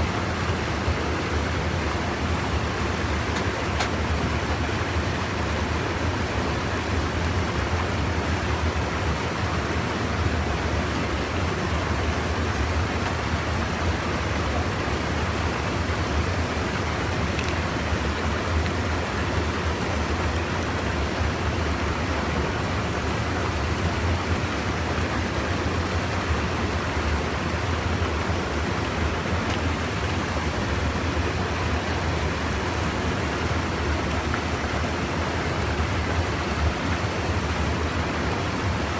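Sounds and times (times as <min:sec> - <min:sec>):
river water rushing over dam: 0:00.0 - 0:38.9.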